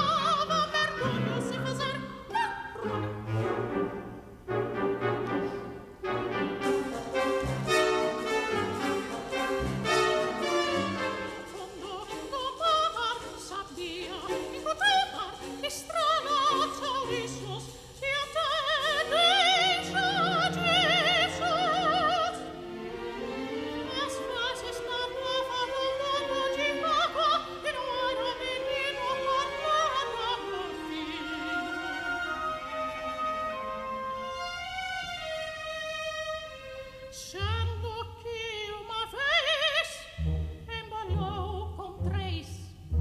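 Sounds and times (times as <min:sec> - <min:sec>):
soprano singing opera: 0:00.0 - 0:03.4, 0:10.2 - 0:22.6, 0:23.8 - 0:42.7
symphony orchestra: 0:00.0 - 0:43.0.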